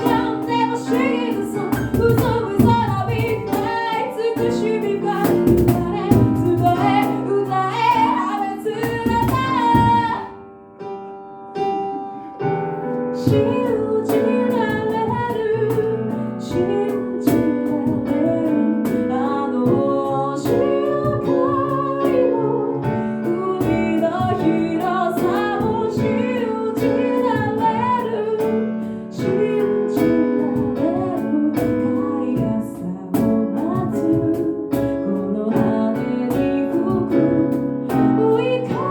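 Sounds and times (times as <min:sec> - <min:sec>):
woman singing lead: 0:00.0 - 0:10.4, 0:13.1 - 0:38.9.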